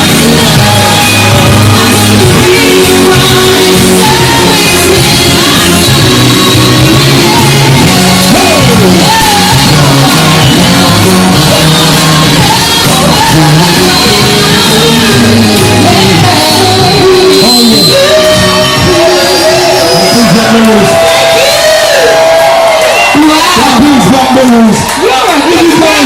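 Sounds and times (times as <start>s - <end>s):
loud distorted live pop music: 0.0s - 26.0s.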